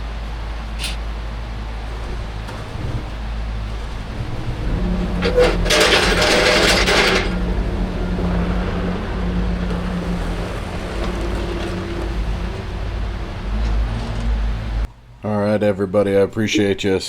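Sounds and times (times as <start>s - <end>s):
engine running: 0.0s - 14.9s.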